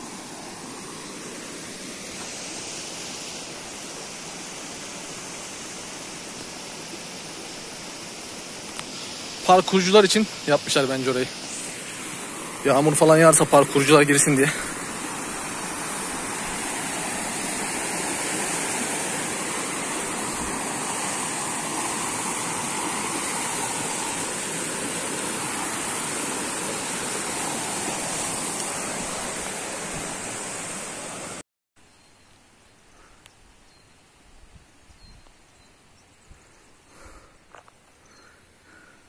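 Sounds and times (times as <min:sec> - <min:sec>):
stream splashing over stones: 0:00.0 - 0:31.4
faint outdoor ambience: 0:00.0 - 0:39.0.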